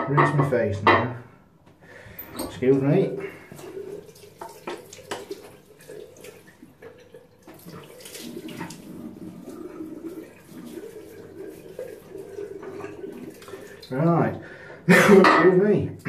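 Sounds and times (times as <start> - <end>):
water splashing at a sink: 2.4 - 16.0.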